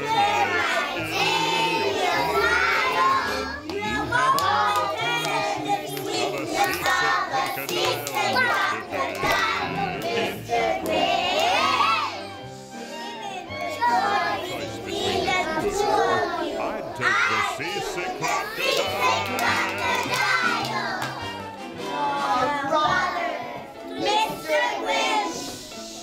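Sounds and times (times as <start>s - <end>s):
children singing: 0.0s - 26.0s
music: 0.0s - 26.0s.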